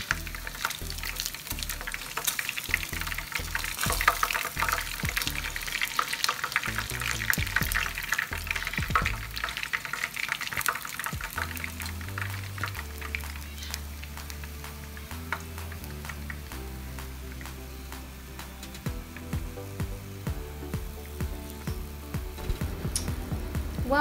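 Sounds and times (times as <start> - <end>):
background music: 0.0 - 24.0
oil sizzling in a frying pan: 0.0 - 24.0.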